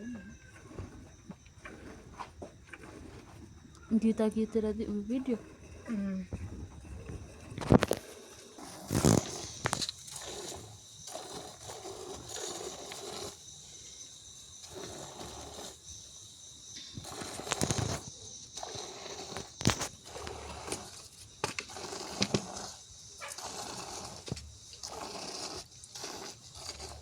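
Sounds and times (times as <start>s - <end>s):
milk spurting into a pail: 0.0s - 13.9s, 14.6s - 16.2s, 17.0s - 27.0s.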